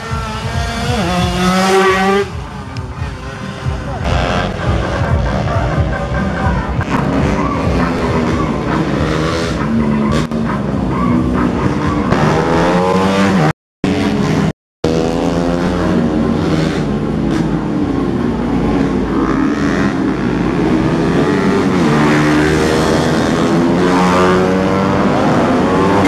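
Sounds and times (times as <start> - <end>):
racing motorcycles passing: 0.0 - 26.0.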